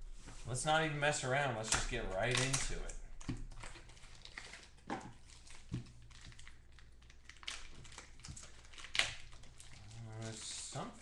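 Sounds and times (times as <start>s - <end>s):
wrapper crinkling and tearing: 1.6s - 11.0s.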